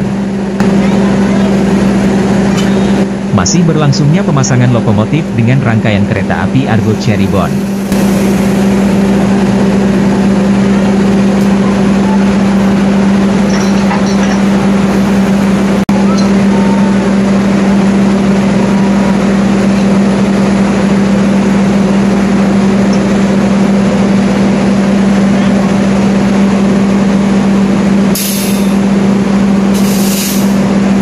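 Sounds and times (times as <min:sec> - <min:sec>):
diesel locomotive idling: 0:00.0 - 0:31.0.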